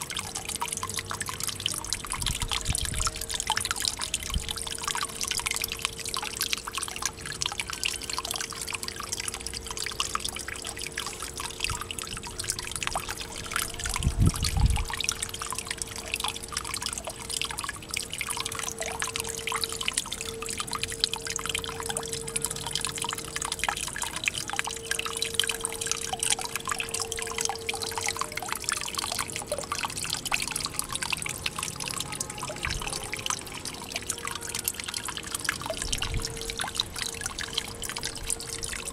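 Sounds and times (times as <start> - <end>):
steady hum: 0.0 - 38.9
water trickling into pond: 0.0 - 38.9.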